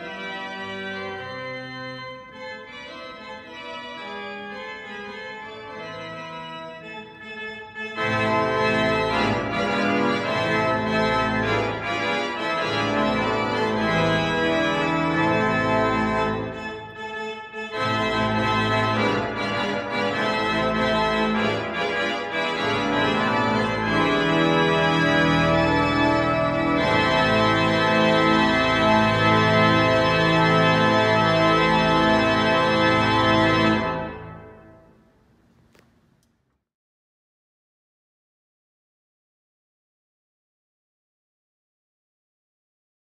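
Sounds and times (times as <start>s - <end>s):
church organ chords: 0.0s - 35.0s.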